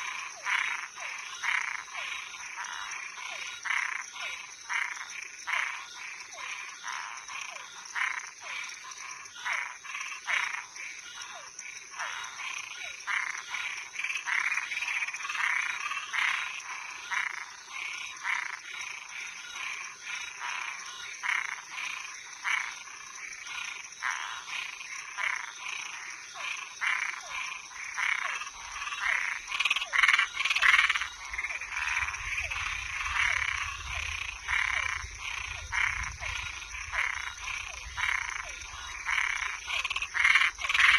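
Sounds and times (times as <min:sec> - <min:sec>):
frogs calling: 0:00.0 - 0:40.9.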